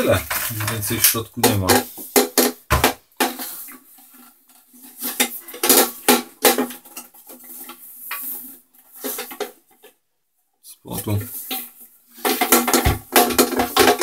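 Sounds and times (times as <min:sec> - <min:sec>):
plastic parts knocking and rattling: 0:00.0 - 0:10.0, 0:10.9 - 0:14.0.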